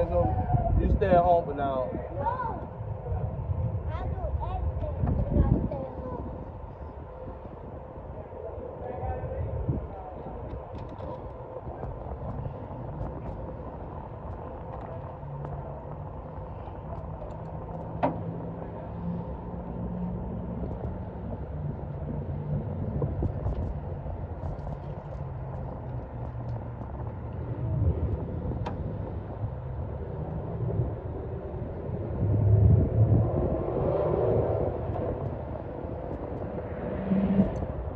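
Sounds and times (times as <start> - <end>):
car engine hum: 0.0 - 37.9
road noise: 0.0 - 37.9.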